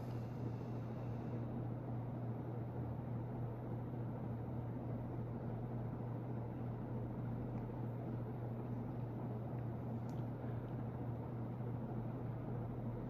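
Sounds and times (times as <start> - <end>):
ceiling fan motor hum: 0.0 - 13.0.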